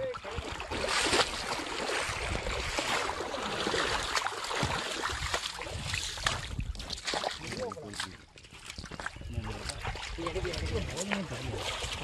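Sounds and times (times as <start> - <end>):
steady wash of water: 0.0 - 8.1, 9.6 - 12.0
water splashing around waders: 0.0 - 12.0.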